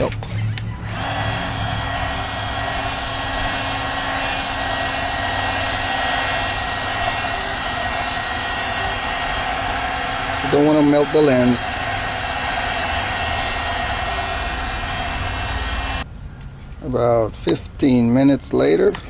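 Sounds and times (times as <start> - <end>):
hair dryer running: 0.8 - 16.0.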